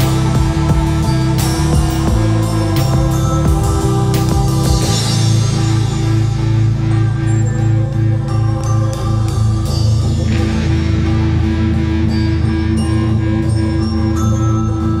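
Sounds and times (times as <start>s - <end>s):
background music with low pulse: 0.0s - 15.0s.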